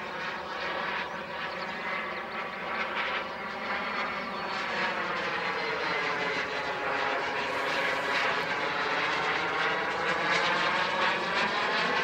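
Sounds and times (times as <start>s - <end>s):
model jet engine whining: 0.0s - 12.0s.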